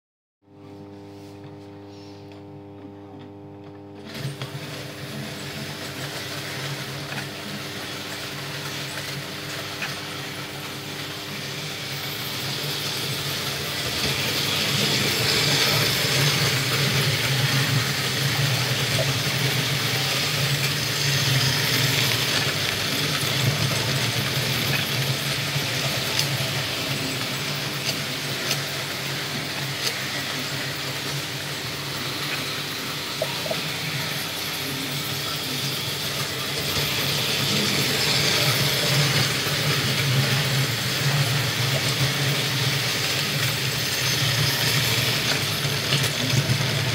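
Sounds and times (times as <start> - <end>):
model train motor hum and wheel rumble: 3.6 - 46.9.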